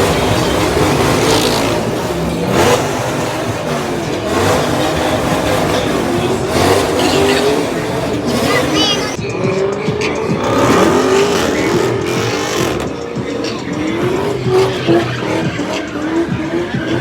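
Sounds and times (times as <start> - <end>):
car engine revving: 0.0 - 17.0
tyres squealing: 0.0 - 17.0.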